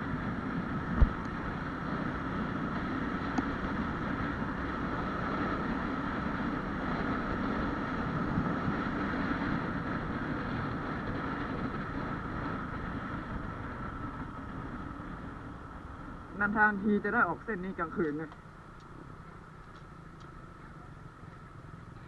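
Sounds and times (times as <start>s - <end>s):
motorcycle engine running: 0.0s - 17.7s, 18.3s - 22.0s
wind rushing over microphone: 0.0s - 18.3s.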